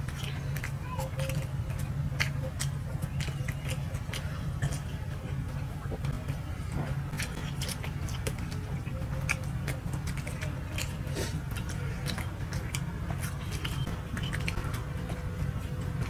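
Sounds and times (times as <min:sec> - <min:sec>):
people chewing with wet smacks: 0:00.0 - 0:16.0
steady low hum: 0:00.0 - 0:16.0.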